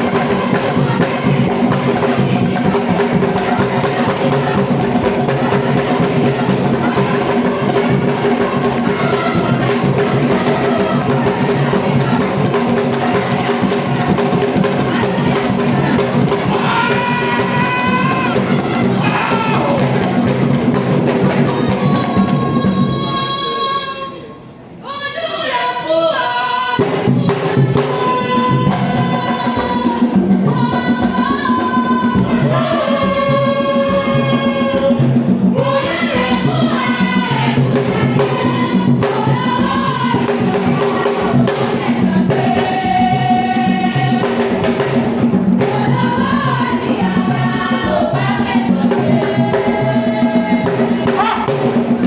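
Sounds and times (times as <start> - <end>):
drums and percussion beat: 0.0 - 23.0, 26.8 - 52.0
group singing: 0.0 - 52.0.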